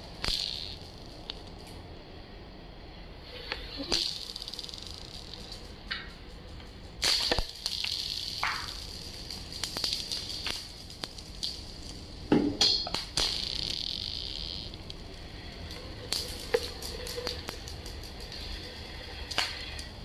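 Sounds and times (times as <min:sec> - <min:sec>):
marbles clattering: 0:00.0 - 0:01.7, 0:03.5 - 0:06.2, 0:07.0 - 0:12.2, 0:12.9 - 0:20.0
marbles clicking together: 0:00.0 - 0:01.7, 0:03.5 - 0:12.2, 0:12.9 - 0:20.0
marbles rolling on stone floor: 0:00.0 - 0:01.8, 0:03.3 - 0:12.2, 0:12.9 - 0:20.0.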